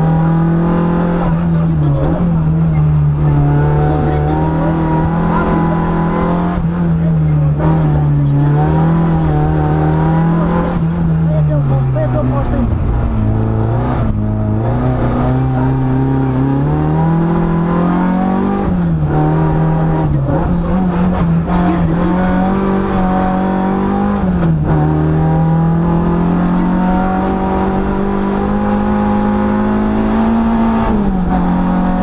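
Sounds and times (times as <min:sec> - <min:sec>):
car engine revving hard: 0:00.0 - 0:32.0.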